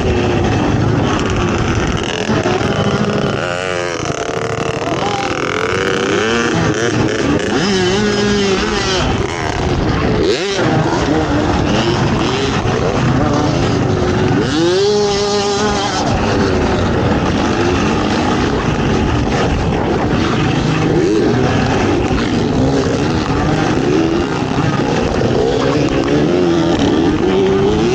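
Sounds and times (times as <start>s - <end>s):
off-road vehicle engine revving: 0.0s - 27.9s.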